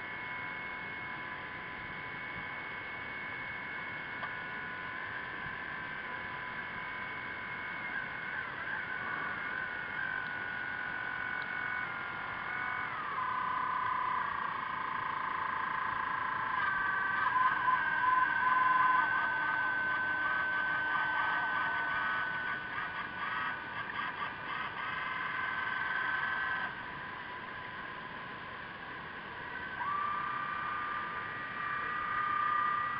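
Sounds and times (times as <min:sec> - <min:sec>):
electric motor whine: 0:00.0 - 0:32.9.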